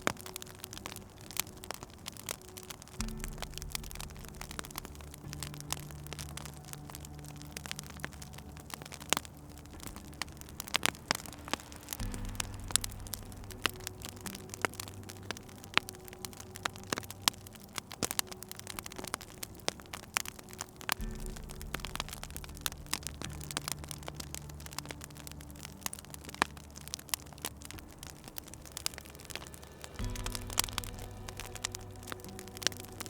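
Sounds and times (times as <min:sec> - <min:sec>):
soft low sustained music: 0:00.0 - 0:33.0
wood fire crackling and popping: 0:00.0 - 0:33.0.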